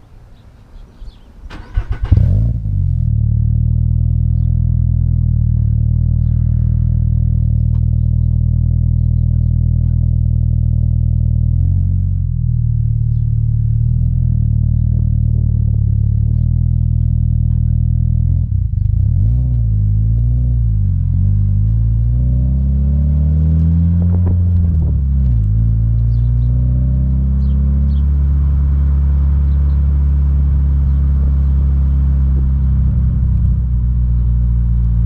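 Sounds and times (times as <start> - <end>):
car engine starting and idling: 1.4 - 35.0.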